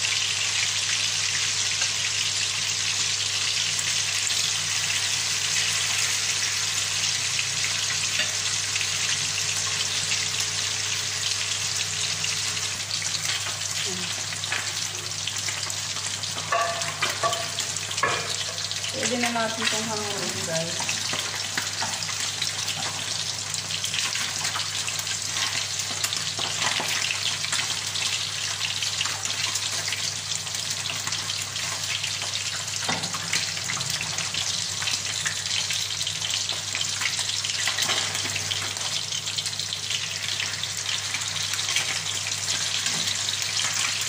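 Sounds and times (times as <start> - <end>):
fish sizzling in frying pan: 0.0 - 44.0.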